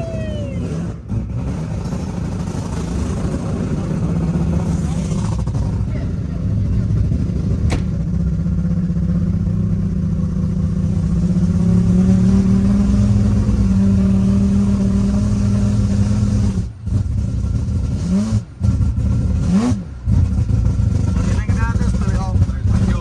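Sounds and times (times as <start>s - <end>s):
rotary engine revving under load: 0.0s - 23.0s.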